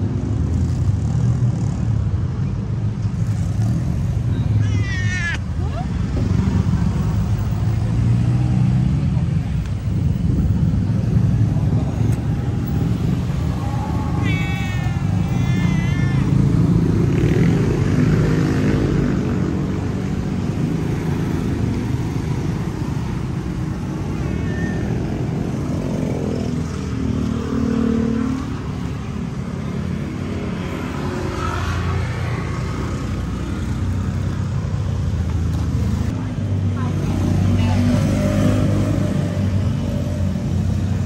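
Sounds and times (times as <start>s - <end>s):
passing motor vehicles rumbling: 0.0s - 41.0s.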